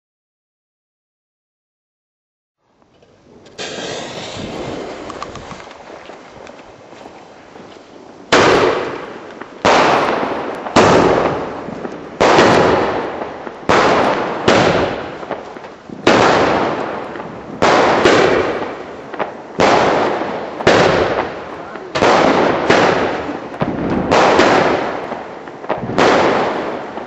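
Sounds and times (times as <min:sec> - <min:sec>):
fireworks banging with echo: 0:03.4 - 0:27.0.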